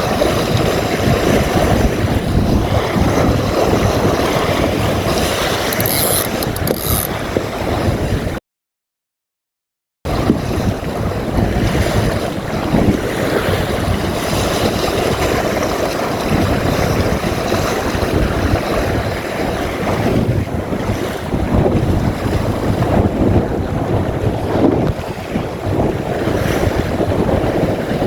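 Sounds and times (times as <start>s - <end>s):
water splashing along hull: 0.0s - 8.4s, 10.1s - 28.0s
wind buffeting microphone: 0.0s - 8.4s, 10.1s - 28.0s.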